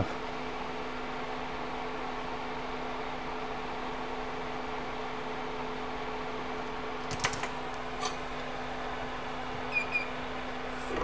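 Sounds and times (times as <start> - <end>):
fan running with hiss and hum: 0.0 - 11.0.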